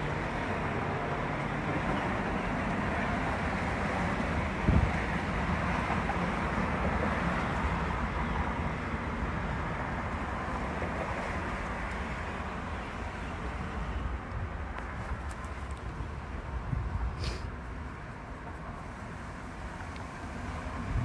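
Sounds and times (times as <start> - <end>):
rushing wind: 0.0 - 21.0.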